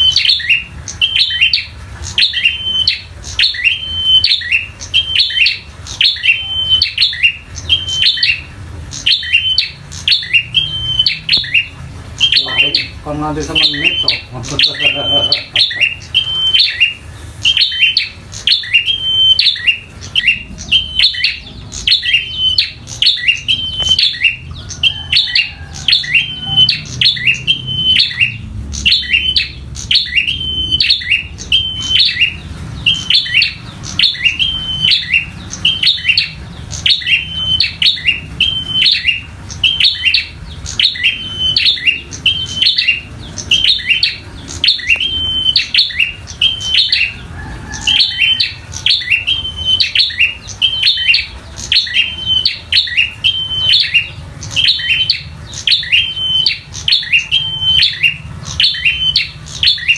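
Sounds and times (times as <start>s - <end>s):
bird chirping call: 0.0s - 59.9s.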